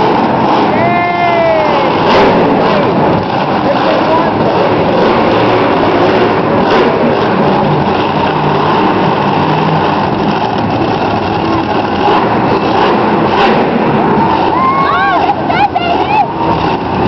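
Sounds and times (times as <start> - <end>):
monster truck engines running loud: 0.0 - 17.0.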